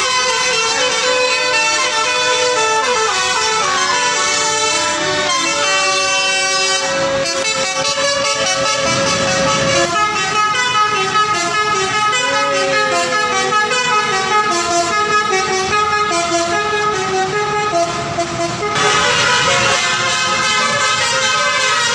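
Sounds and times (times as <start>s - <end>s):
musical air horn playing a tune: 0.0s - 21.9s.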